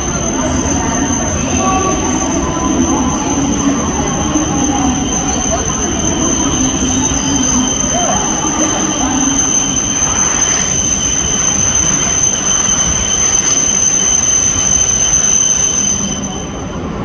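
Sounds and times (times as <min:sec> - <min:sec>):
train rushing with high whine: 0:00.0 - 0:17.0.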